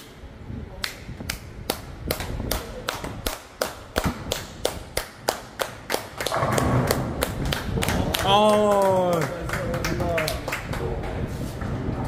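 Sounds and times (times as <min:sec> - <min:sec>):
sharp claps: 0:00.8 - 0:11.0.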